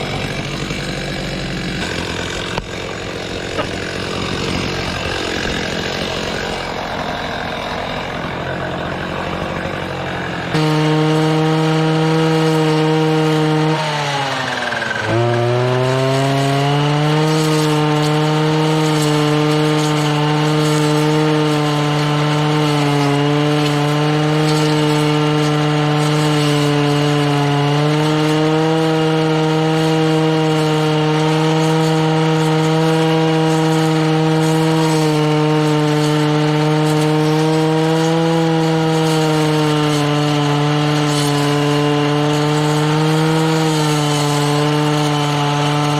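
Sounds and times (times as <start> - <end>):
brushcutter engine revving: 0.0 - 45.9.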